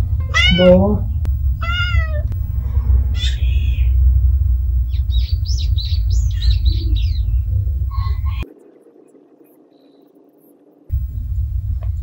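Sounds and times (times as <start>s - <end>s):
steady low rumble: 0.0s - 8.7s, 10.9s - 12.0s
small birds chirping: 0.0s - 12.0s.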